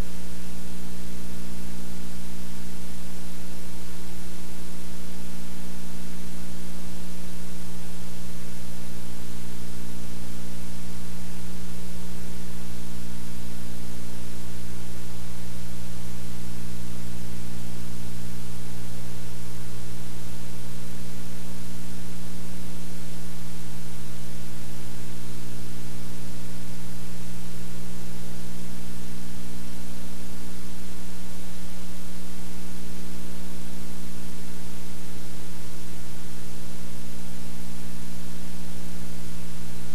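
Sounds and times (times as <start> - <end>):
electrical hum with hiss: 0.0 - 39.9.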